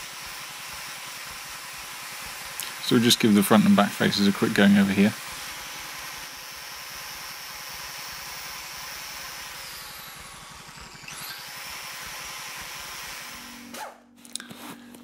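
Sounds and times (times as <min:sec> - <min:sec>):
angle grinder whine: 0:00.0 - 0:15.0.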